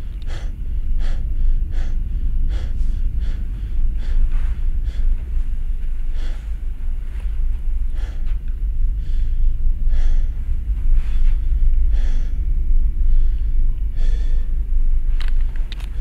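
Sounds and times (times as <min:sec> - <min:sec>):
heavy breathing: 0:00.0 - 0:16.0
loud low rumble: 0:00.0 - 0:16.0.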